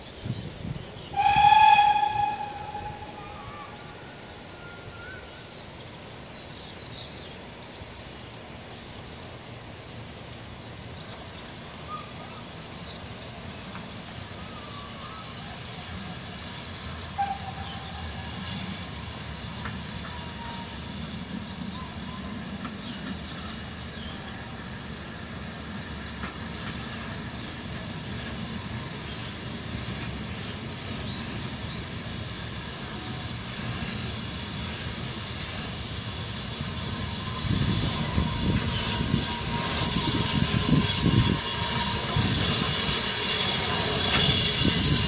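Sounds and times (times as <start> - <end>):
steam locomotive rumble: 0.0 - 45.0.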